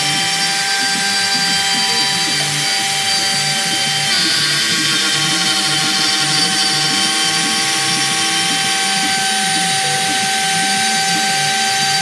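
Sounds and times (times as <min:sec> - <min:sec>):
low shifting tones: 0:00.0 - 0:12.0
router spindle whining: 0:00.0 - 0:12.0.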